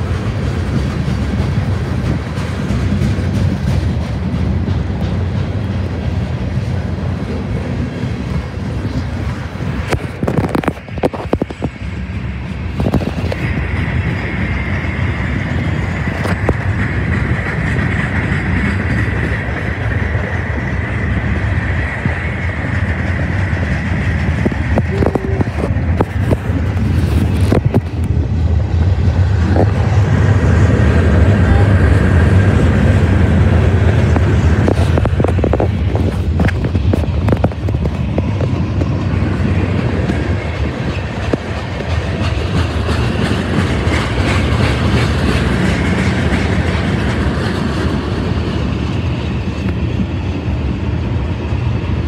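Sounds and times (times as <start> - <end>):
clicks and clanks of freight cars: 0.0 - 52.0
train wheels rumbling on rail: 0.0 - 52.0.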